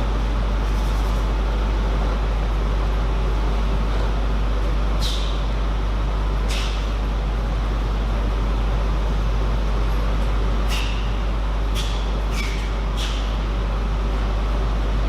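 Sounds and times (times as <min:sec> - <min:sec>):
loud steady low hum: 0:00.0 - 0:15.0.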